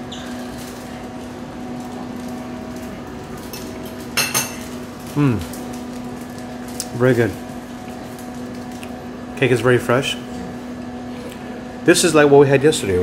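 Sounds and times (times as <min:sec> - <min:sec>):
steady room hum: 0:00.0 - 0:13.0.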